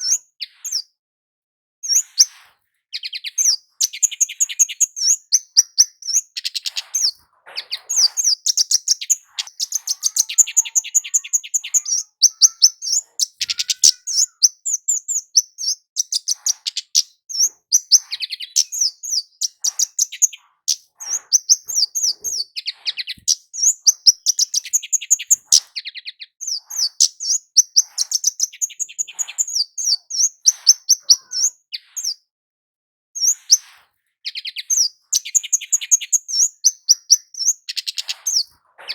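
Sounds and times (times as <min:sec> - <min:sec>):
bird chirping rapidly: 0:00.0 - 0:00.9, 0:01.8 - 0:32.2, 0:33.2 - 0:38.9.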